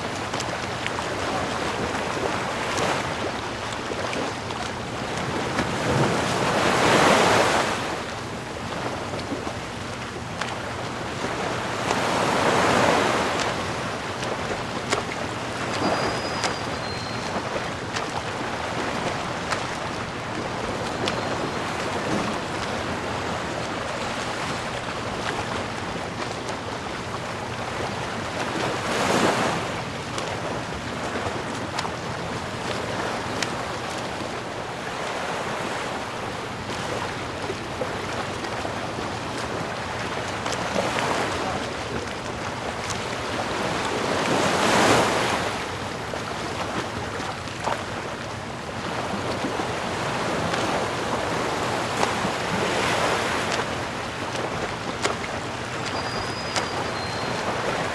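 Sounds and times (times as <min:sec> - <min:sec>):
sea waves washing: 0:00.0 - 0:57.9.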